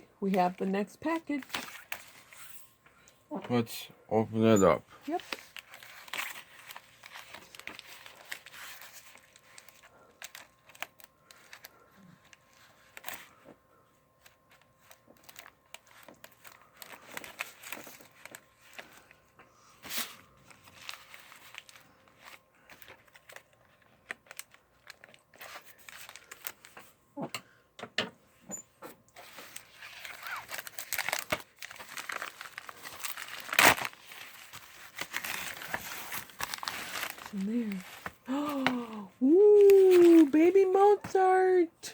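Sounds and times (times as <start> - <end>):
packaging tearing and crinkling: 1.3 - 2.5, 5.1 - 13.4, 14.2 - 26.8, 29.2 - 41.0.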